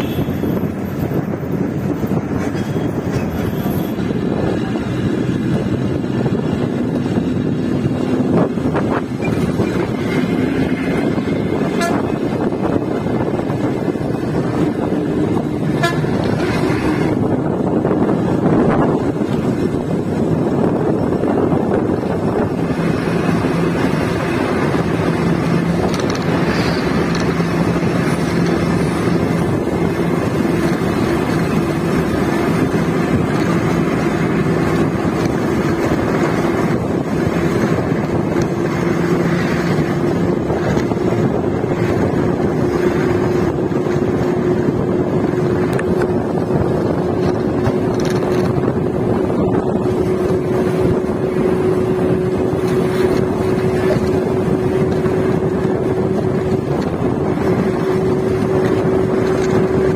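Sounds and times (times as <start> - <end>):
bus engine hum: 0.0 - 59.9
road and wind rush: 0.0 - 59.9.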